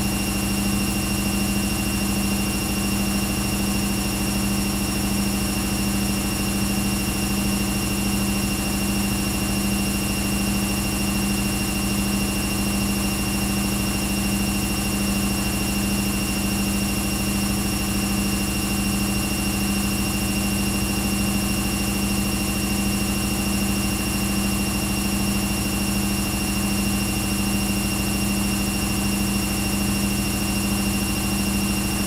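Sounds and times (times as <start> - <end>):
washing machine hum: 0.0 - 32.0.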